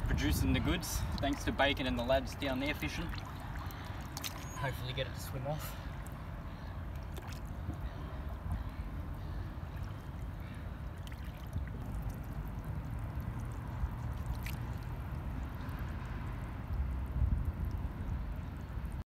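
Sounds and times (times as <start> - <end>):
river water lapping and sloshing: 0.0 - 19.0.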